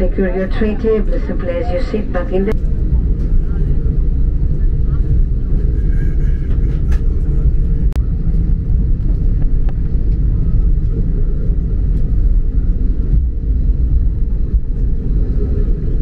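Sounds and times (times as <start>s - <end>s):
aircraft cabin rumble taxiing: 0.0s - 16.0s.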